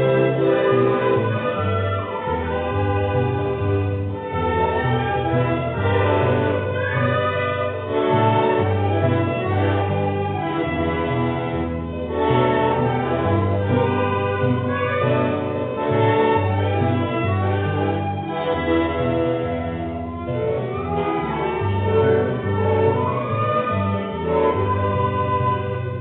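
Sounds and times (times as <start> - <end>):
accordion: 0.0 - 26.0
violin: 0.0 - 26.0.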